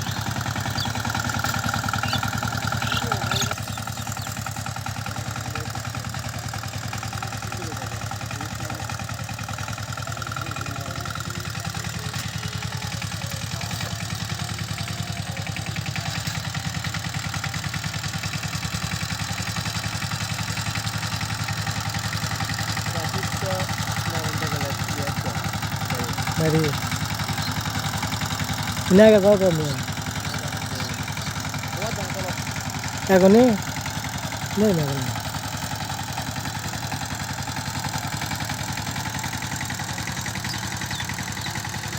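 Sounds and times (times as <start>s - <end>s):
diesel tiller engine chugging: 0.0s - 41.9s.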